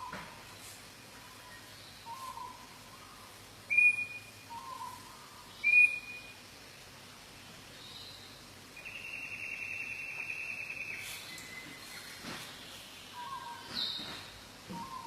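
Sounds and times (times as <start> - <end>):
birds calling: 0.0 - 6.4, 7.7 - 15.0
faint background hiss: 0.0 - 15.0.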